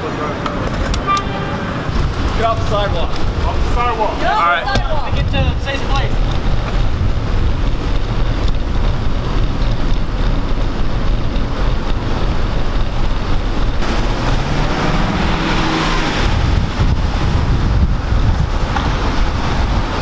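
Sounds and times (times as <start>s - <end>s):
traffic: 0.0s - 20.0s
wind buffeting microphone: 0.0s - 20.0s.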